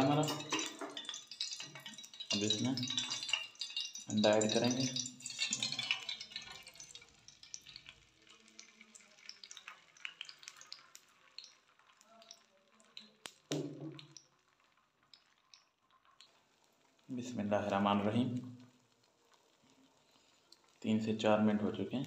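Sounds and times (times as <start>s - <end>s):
eggs sizzling in hot oil: 0.0s - 22.0s.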